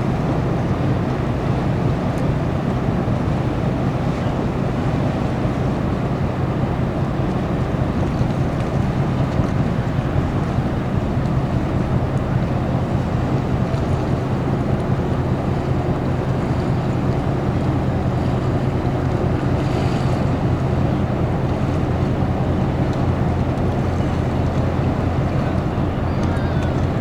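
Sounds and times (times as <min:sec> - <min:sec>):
ship engine drone: 0:00.0 - 0:27.0.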